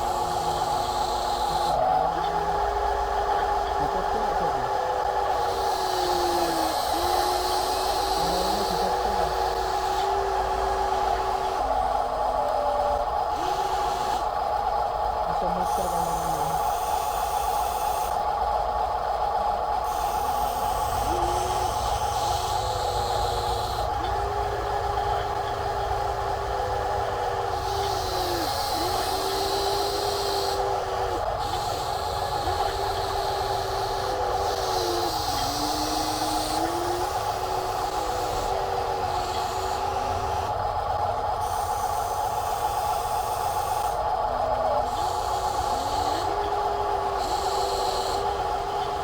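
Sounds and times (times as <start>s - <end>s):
lower motor whine: 0.0s - 49.0s
small electric motors whining: 0.0s - 49.0s.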